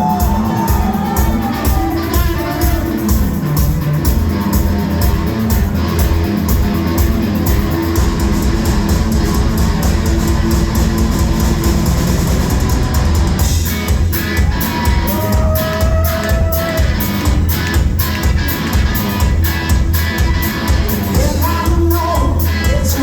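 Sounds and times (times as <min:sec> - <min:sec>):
driving drum kit: 0:00.0 - 0:23.0
electric guitar: 0:00.0 - 0:23.0.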